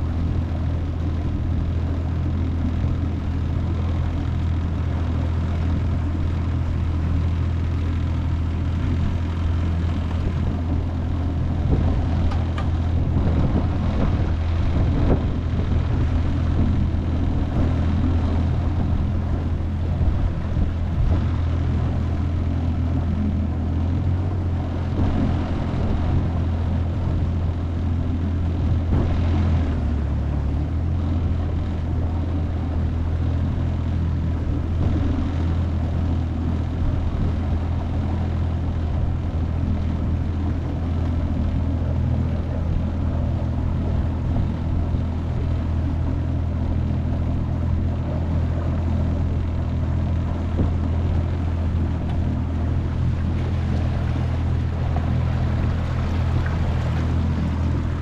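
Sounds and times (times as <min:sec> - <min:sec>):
outboard motor droning: 0:00.0 - 0:58.0.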